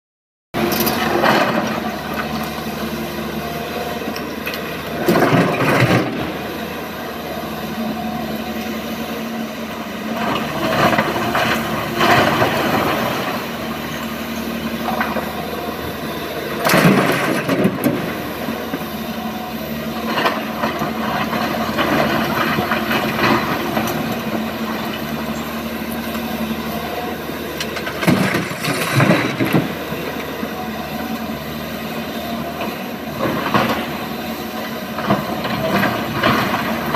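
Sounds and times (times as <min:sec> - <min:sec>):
excavator diesel engine running: 0:00.6 - 0:36.9.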